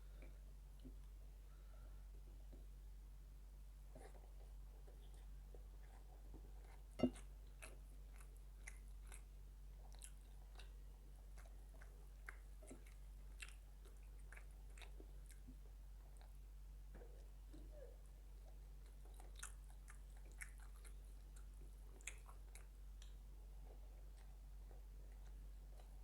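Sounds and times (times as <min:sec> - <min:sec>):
person chewing food: 0:03.9 - 0:26.0.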